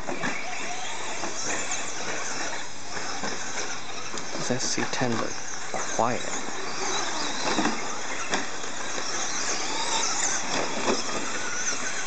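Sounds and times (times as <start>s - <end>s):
rc truck motors whining: 0.0s - 12.0s
tyres on dirt: 0.0s - 12.0s.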